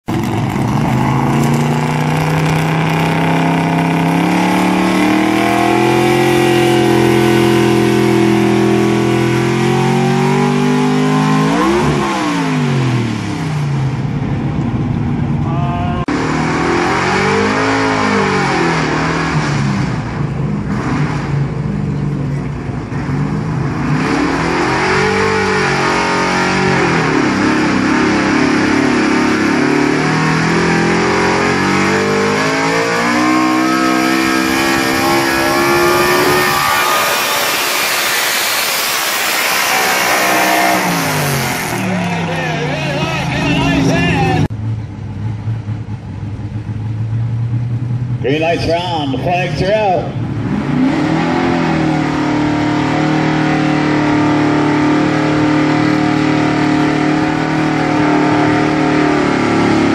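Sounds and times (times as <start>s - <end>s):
truck engine revving at full throttle: 0.0s - 15.4s, 16.0s - 59.9s.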